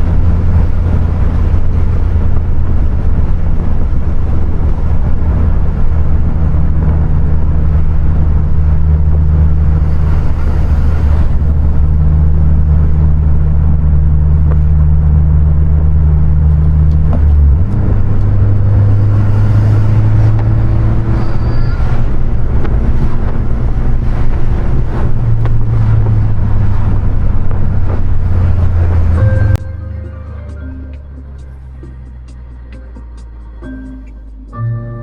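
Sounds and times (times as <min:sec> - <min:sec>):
car engine pulling: 0:00.0 - 0:34.5
tyre and road noise: 0:00.0 - 0:34.6.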